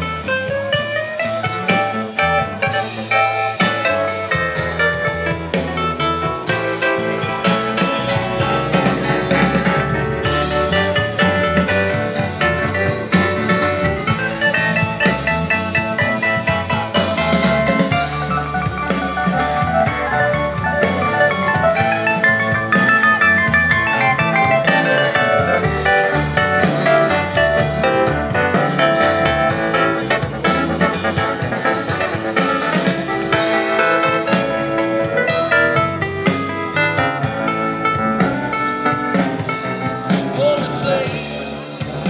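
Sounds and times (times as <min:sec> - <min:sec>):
drum kit beat: 0:00.0 - 0:42.0
electric guitars: 0:00.0 - 0:42.0
keyboard melody: 0:00.0 - 0:42.0.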